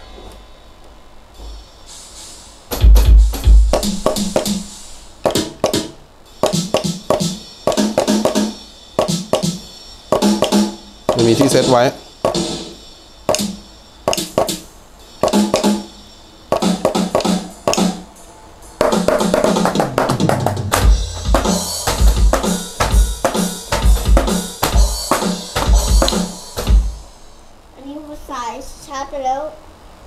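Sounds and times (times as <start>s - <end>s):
electronic drum and cymbal hits: 1.4s - 27.6s
electronic drum beat with kick: 2.7s - 27.1s.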